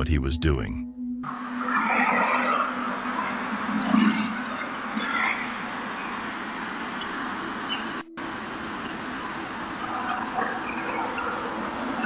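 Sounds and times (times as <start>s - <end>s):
faint steady hum: 0.0s - 12.0s
outdoor background hiss: 0.0s - 12.0s.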